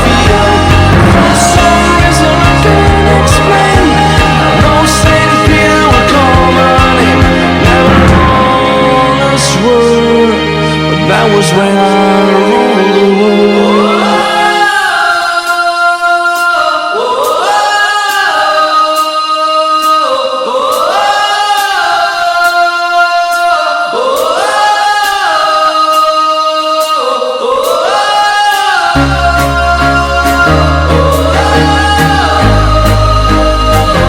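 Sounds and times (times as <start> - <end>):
choir-like vocal swells: 0.0 - 34.0.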